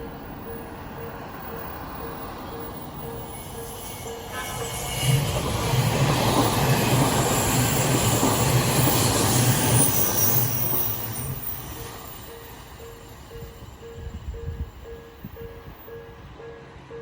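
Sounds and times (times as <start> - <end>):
crossing warning bell: 0.0 - 17.0
train wheels rumbling on rail: 0.0 - 17.0.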